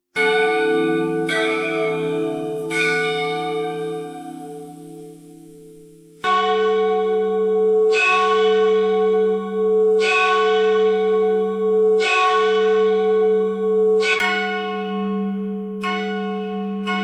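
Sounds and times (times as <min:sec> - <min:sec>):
church bell tolling: 0:00.2 - 0:17.0.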